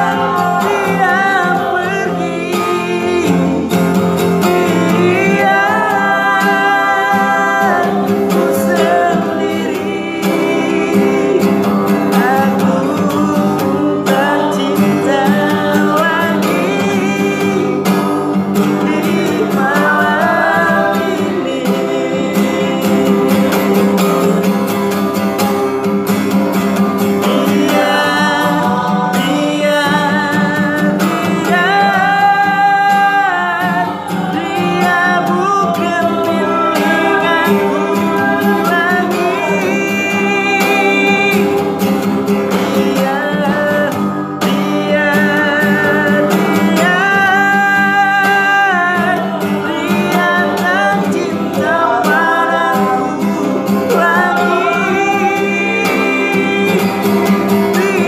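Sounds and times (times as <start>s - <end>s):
acoustic guitar strumming: 0.0s - 58.0s
man singing: 0.0s - 58.0s.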